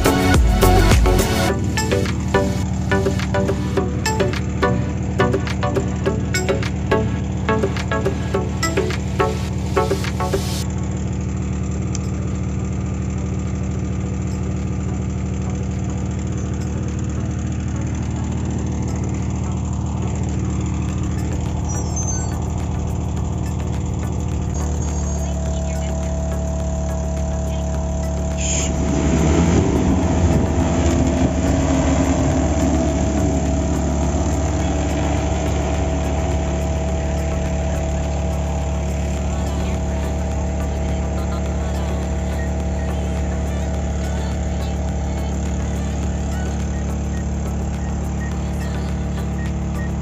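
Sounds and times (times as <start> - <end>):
drone rotors humming: 0.0 - 50.0
engine idling: 0.0 - 50.0.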